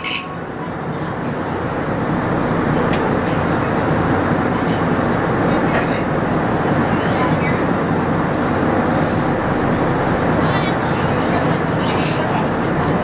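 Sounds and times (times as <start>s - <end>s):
ferry engines rumbling: 0.0s - 13.0s.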